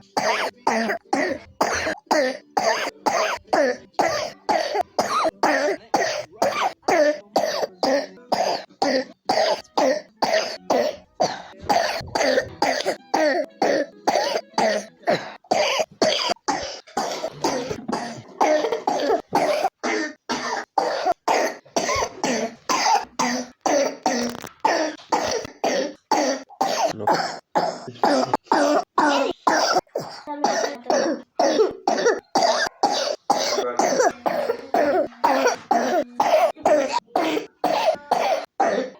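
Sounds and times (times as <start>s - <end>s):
child coughing: 0.0s - 38.9s.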